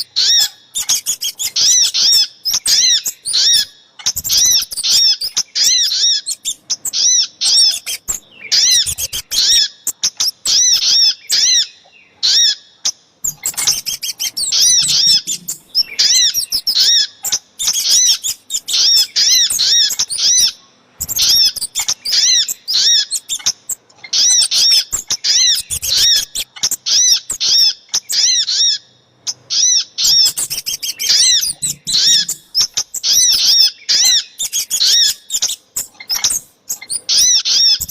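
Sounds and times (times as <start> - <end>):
songbirds chirping: 0.0 - 37.9.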